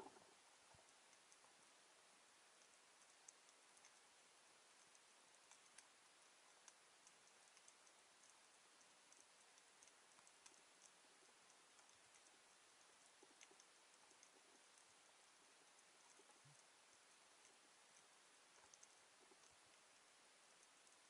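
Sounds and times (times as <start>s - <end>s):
snapping shrimp crackle underwater: 0.0s - 21.0s.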